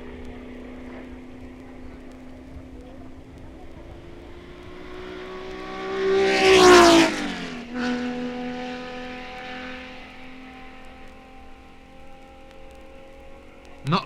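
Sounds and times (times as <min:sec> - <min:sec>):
racing car engine passing by: 0:00.0 - 0:14.0.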